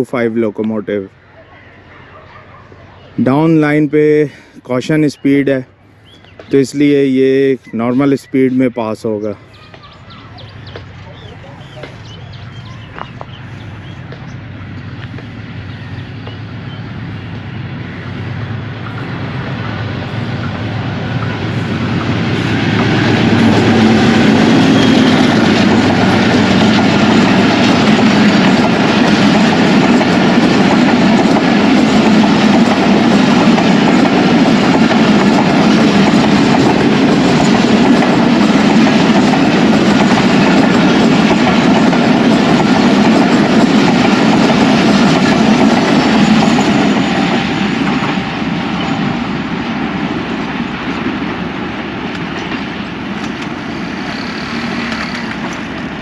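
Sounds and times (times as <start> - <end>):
diesel locomotive passing: 0.0 - 56.0
passenger coaches rolling on rails: 0.0 - 56.0.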